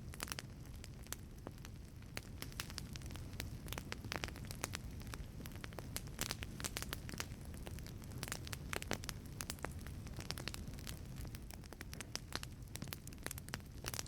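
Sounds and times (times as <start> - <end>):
burning wood crackling: 0.0 - 14.0
low rumble of flames: 0.0 - 14.0.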